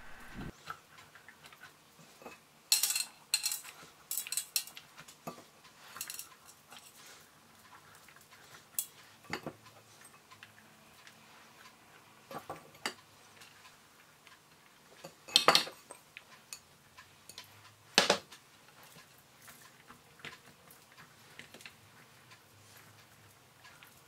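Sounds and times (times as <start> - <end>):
soft rustles and light clicks: 0.0 - 24.0.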